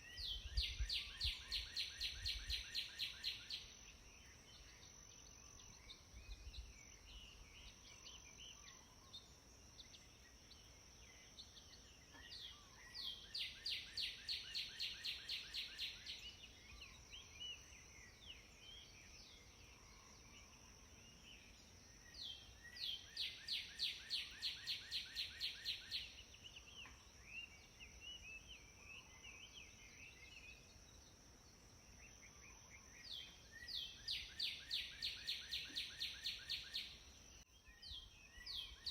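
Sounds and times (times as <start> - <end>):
soft bird chirps: 0.0 - 38.9
songbird singing: 0.0 - 38.9.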